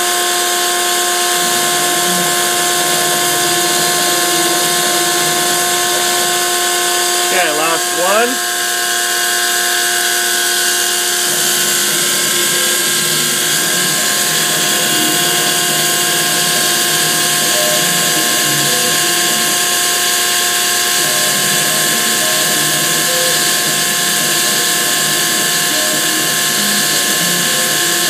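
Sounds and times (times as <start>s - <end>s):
milling machine spindle running: 0.0s - 28.0s
steady whining tones: 0.0s - 28.0s.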